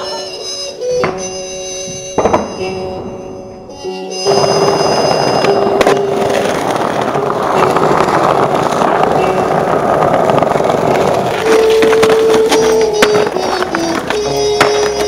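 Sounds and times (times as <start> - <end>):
skateboard rolling over bricks: 1.9 - 15.0.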